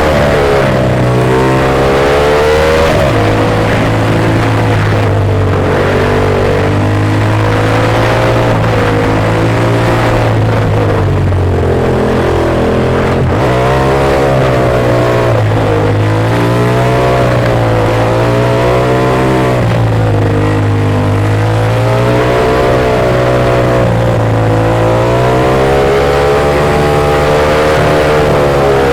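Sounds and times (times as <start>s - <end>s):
motorcycle engine running: 0.0s - 28.9s
wind and road noise: 0.0s - 28.9s.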